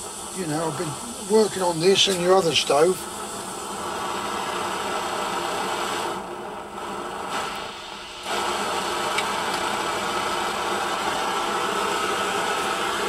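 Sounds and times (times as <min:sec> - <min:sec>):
stove burner hissing: 0:00.0 - 0:13.0.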